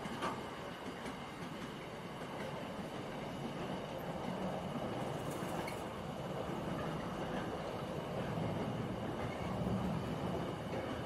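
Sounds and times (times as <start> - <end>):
train wheels on rail: 0.0 - 11.0.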